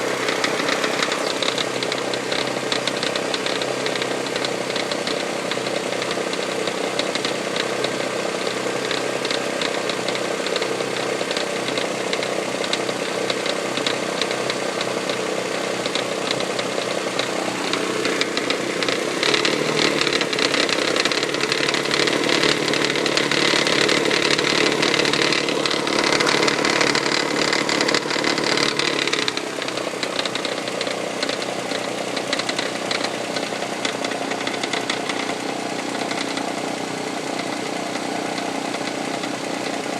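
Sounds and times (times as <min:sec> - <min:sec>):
car engine tapping knock: 0:00.1 - 0:39.9.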